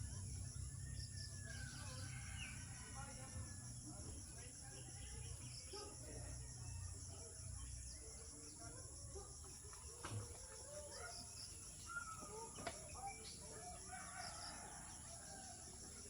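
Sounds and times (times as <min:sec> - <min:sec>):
faint chirps: 0:00.0 - 0:16.0.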